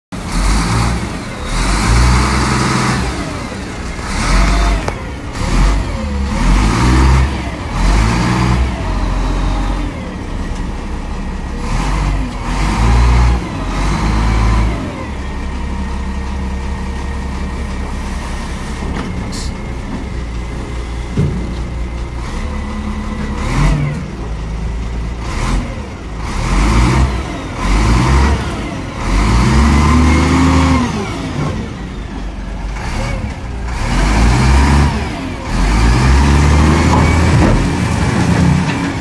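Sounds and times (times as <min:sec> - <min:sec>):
diesel engine revving and idling: 0:00.1 - 0:39.0.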